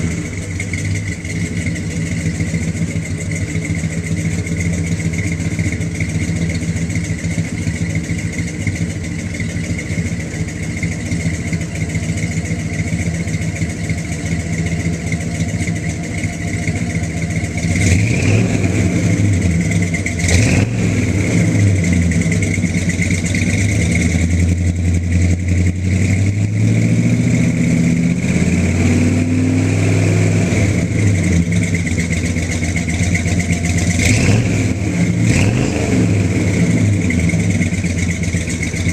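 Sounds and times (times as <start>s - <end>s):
van engine idling and revving: 0.0s - 38.9s.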